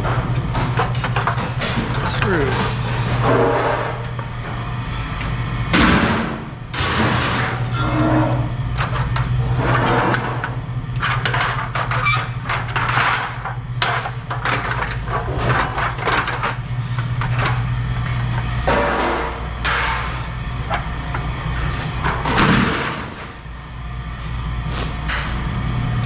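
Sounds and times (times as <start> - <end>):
scrap metal clattering: 0.0 - 4.6, 5.7 - 23.5
low machine hum: 0.0 - 26.0.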